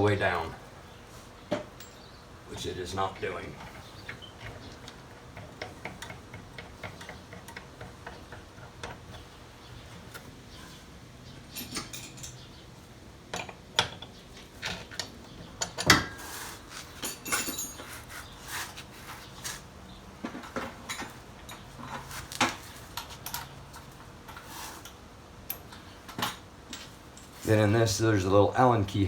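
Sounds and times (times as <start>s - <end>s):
hand tools and metal parts clinking: 1.3s - 12.6s, 13.3s - 27.9s.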